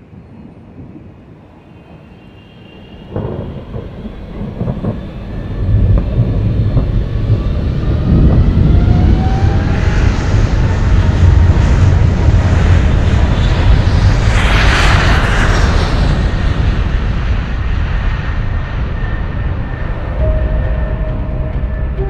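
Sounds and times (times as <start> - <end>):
jet aircraft rumble: 0.0 - 22.0
jet engine whines: 0.0 - 22.0.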